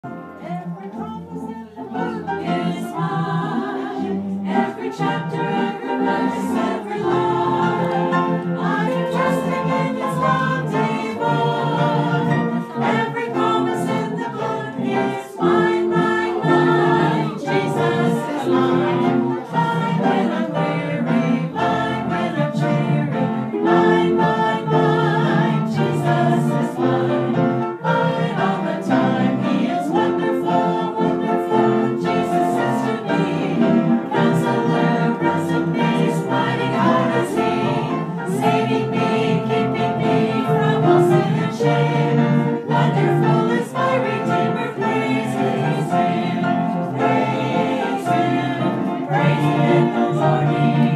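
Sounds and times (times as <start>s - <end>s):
group singing a gospel chorus: 0.0s - 50.9s
organ: 0.0s - 50.9s
piano: 0.0s - 50.9s.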